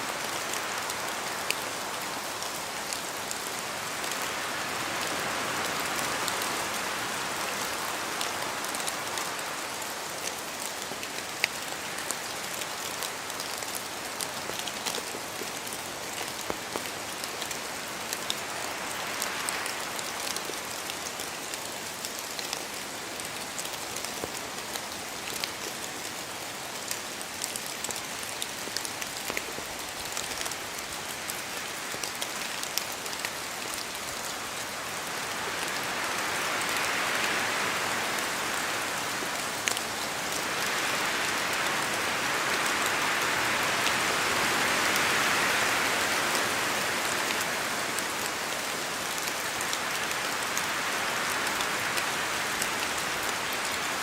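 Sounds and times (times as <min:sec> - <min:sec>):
steady rain in forest: 0:00.0 - 0:54.0
wind gusting through trees: 0:00.0 - 0:54.0.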